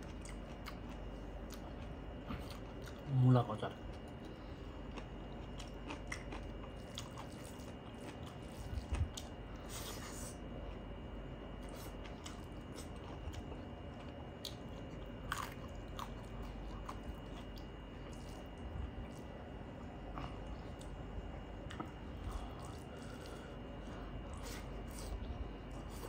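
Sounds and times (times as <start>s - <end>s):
chewing food: 0.0s - 26.0s.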